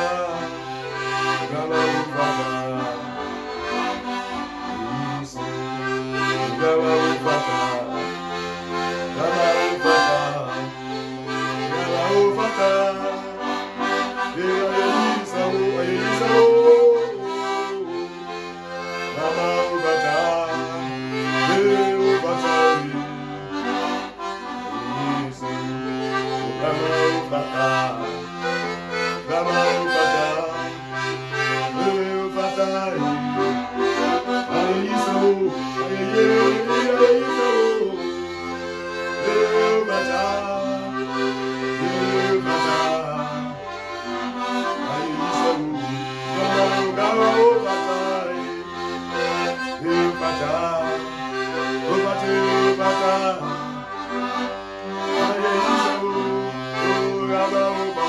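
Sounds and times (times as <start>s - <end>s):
man singing: 0.0s - 18.1s, 18.9s - 23.6s, 24.7s - 53.9s, 55.0s - 58.0s
piano accordion playing: 0.0s - 58.0s.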